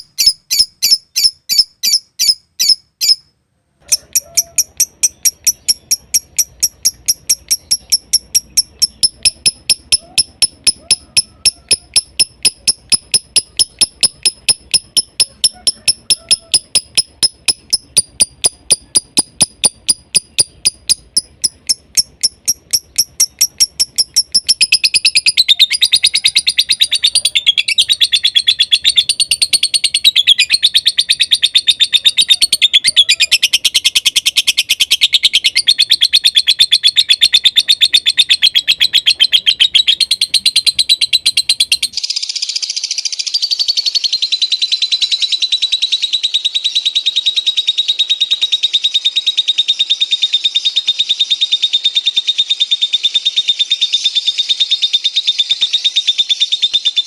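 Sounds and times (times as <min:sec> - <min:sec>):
lovebird chirping and chattering: 0:00.0 - 0:57.0.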